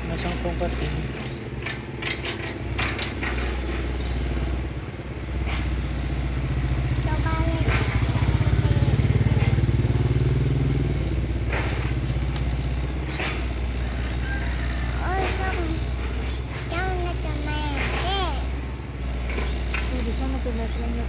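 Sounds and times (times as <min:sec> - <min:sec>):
engine pulsing rumble: 0:00.0 - 0:21.0.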